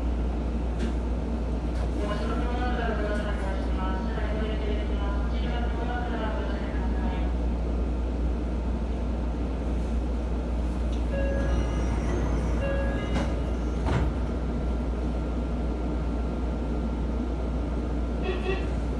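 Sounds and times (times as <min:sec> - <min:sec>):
train car low hum: 0:00.0 - 0:18.9.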